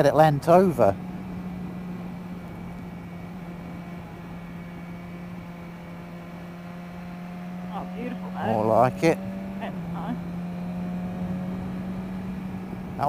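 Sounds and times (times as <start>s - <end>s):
motorcycle engine drone: 0.0s - 13.0s
wind and road noise: 0.0s - 13.0s.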